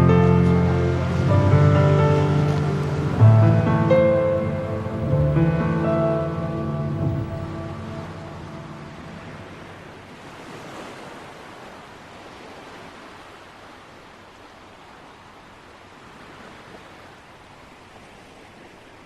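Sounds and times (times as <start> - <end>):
waves breaking on shore: 0.0 - 19.0.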